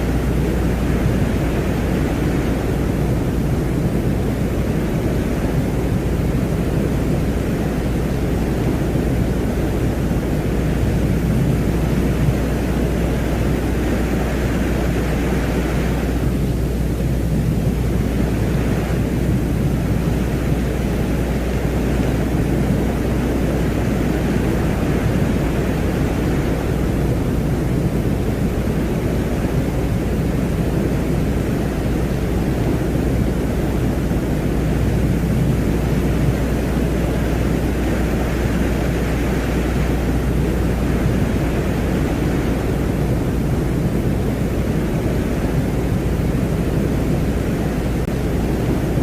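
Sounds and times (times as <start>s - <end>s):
constant low hum: 0.0s - 49.0s.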